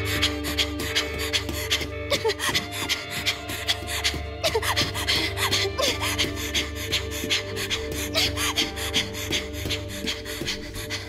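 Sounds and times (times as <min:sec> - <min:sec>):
girl panting: 0:00.0 - 0:11.0
tense music with low drone: 0:00.0 - 0:11.0.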